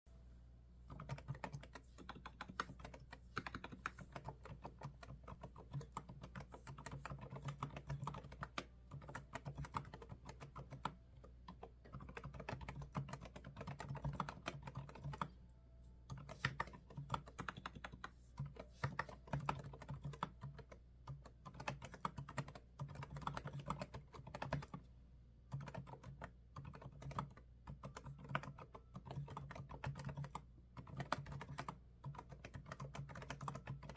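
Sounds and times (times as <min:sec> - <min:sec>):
fast typing on keyboard: 0:00.9 - 0:15.4, 0:16.1 - 0:24.8, 0:25.5 - 0:33.9.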